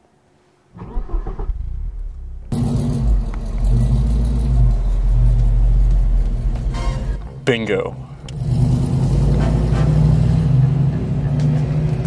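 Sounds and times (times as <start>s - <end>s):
vehicle engine rumbling: 0.8s - 12.0s.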